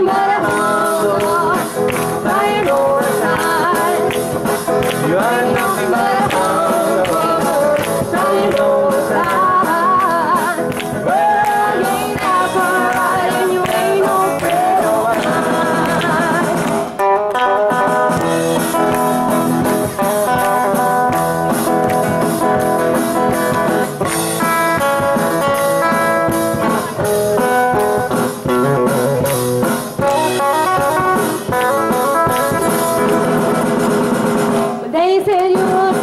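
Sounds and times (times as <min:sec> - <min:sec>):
band backing parts: 0:00.0 - 0:36.0
guitar solo: 0:01.3 - 0:34.0.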